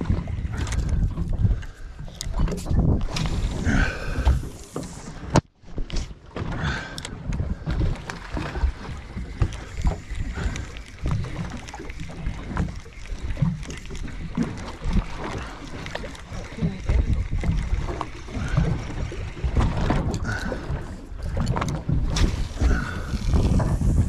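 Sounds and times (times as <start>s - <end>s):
water against hull: 0.0s - 24.0s
wind rumbling on microphone: 0.0s - 24.0s.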